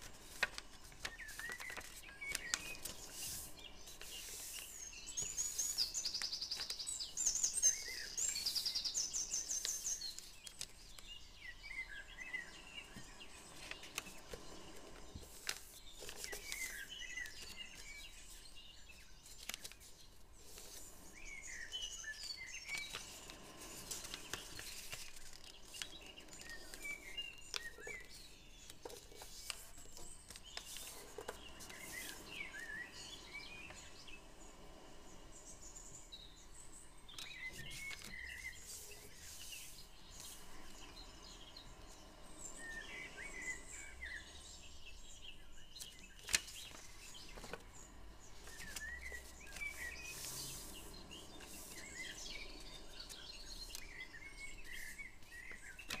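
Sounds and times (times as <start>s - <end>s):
paper rustling and crinkling: 0.0s - 11.2s, 12.8s - 32.8s, 37.1s - 40.9s, 45.8s - 56.0s
small birds chirping: 0.0s - 56.0s.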